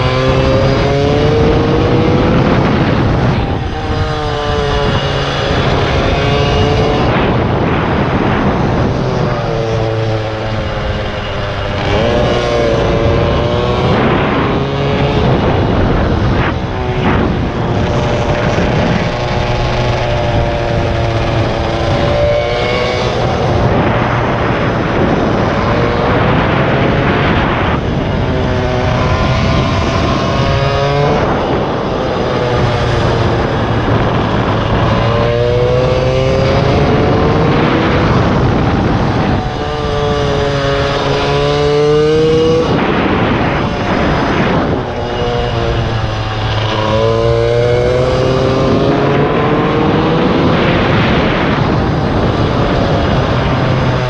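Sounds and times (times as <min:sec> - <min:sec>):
motorcycle engine revving: 0:00.0 - 0:54.0
rushing wind noise: 0:00.0 - 0:54.0.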